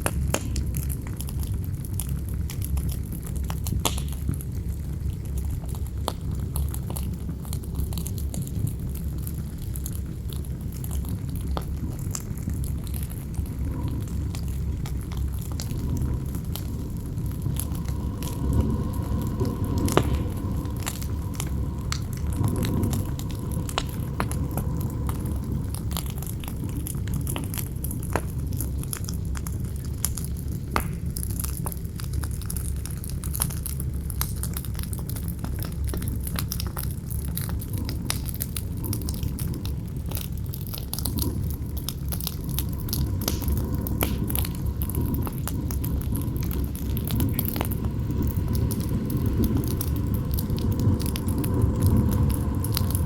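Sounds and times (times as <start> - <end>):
campfire crackling and popping: 0.0 - 53.0
low rumble of wind: 0.0 - 53.0.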